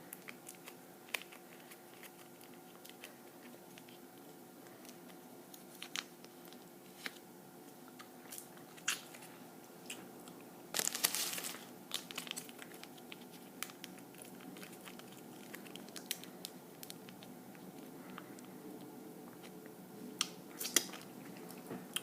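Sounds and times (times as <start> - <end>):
crunch or crinkle: 0.0 - 7.2, 7.9 - 19.5
person chewing food: 0.0 - 22.0.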